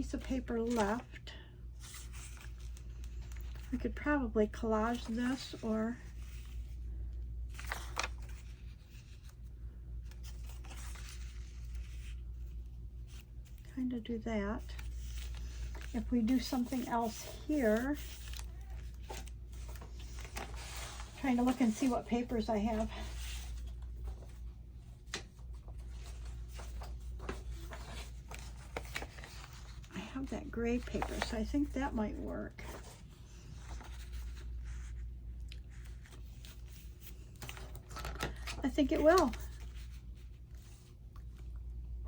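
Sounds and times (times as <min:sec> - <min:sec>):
paper rustling: 0:00.2 - 0:01.1, 0:01.8 - 0:04.0, 0:04.6 - 0:06.8, 0:07.5 - 0:13.7, 0:14.6 - 0:41.6.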